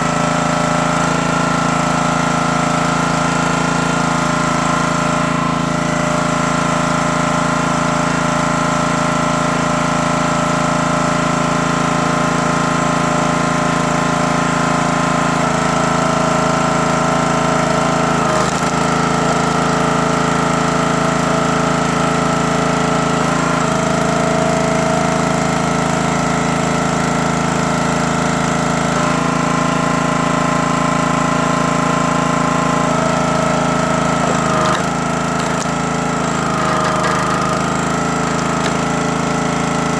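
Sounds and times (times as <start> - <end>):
log splitter gas engine running: 0.0 - 39.9.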